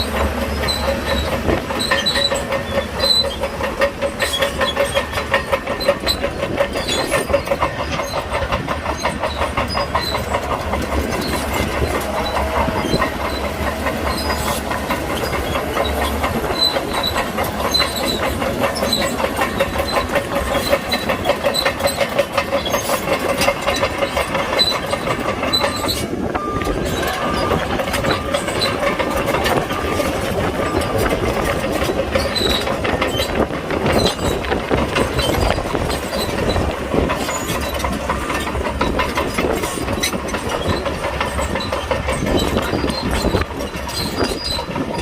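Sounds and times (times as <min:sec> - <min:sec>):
bulldozer diesel engine running: 0:00.0 - 0:45.0
steel tracks clattering: 0:00.0 - 0:45.0.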